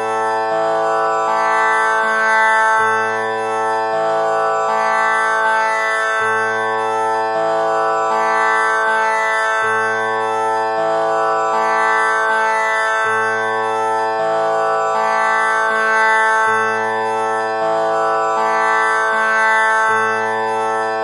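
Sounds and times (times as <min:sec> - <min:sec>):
tanpura drone: 0:00.0 - 0:21.0.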